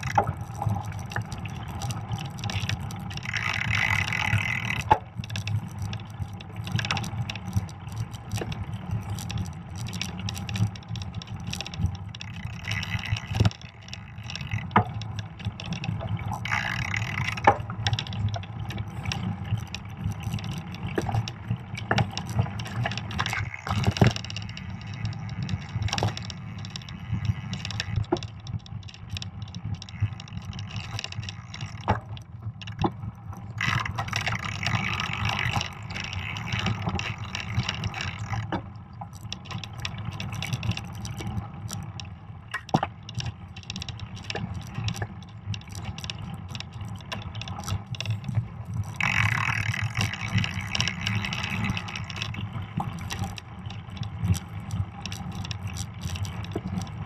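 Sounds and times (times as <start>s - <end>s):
bike knocking and rattling: 0.0s - 40.9s, 42.5s - 57.0s
wind: 0.0s - 57.0s.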